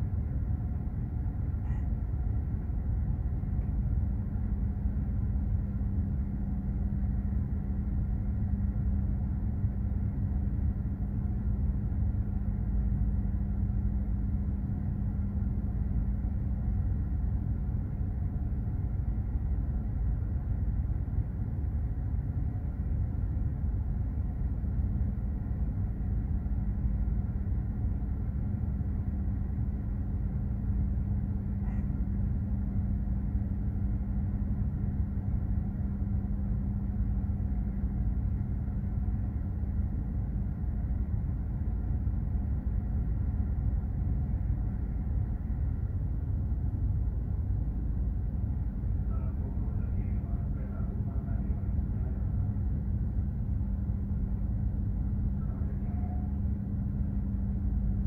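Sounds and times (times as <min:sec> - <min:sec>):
ship engine droning: 0:00.0 - 0:58.0.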